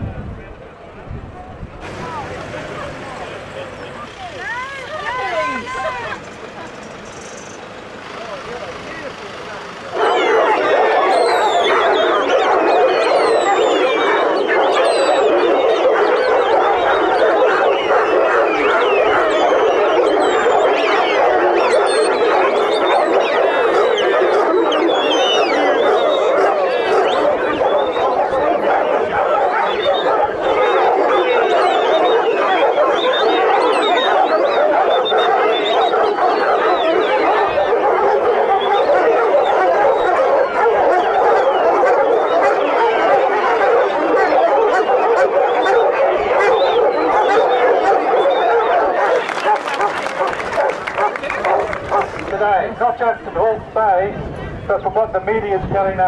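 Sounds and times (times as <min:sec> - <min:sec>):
dogs howling and barking: 0:01.8 - 0:53.6.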